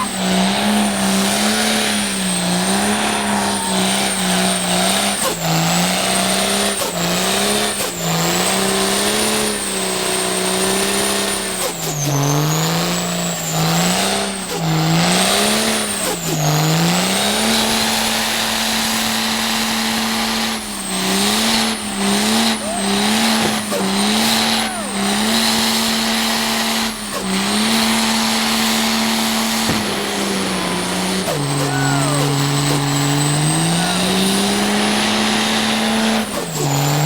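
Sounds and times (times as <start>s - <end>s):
diesel truck engine revving: 0.0s - 37.0s.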